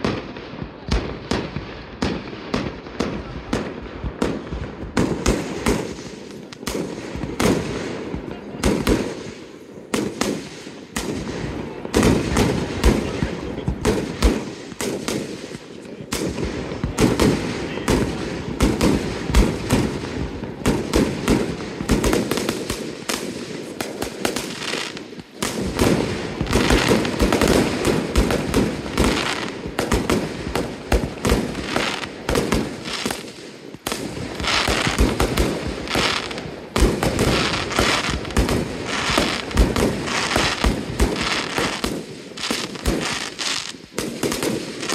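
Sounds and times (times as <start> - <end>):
fireworks crackling: 0.0 - 44.9.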